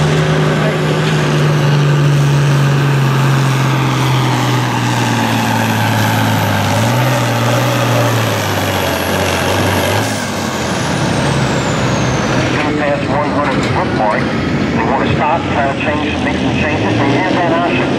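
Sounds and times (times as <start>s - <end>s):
tractor diesel engine under load: 0.0s - 17.9s.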